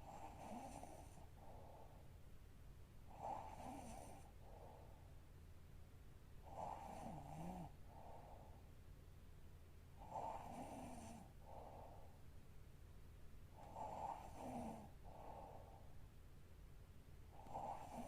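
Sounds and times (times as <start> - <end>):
quiet breaths: 0.0 - 18.0.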